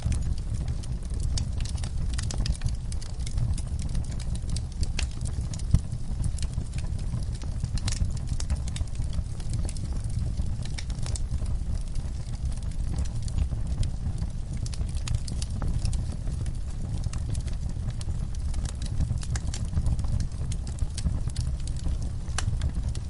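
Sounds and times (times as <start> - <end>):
low rumble of flames: 0.0 - 23.0
wood fire crackling: 0.0 - 23.0.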